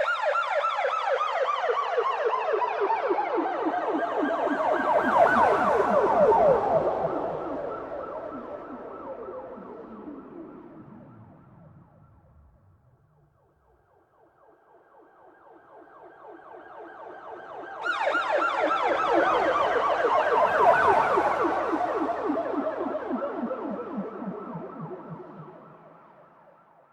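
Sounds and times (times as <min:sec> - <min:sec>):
police siren wailing: 0:00.0 - 0:13.2, 0:14.4 - 0:26.8.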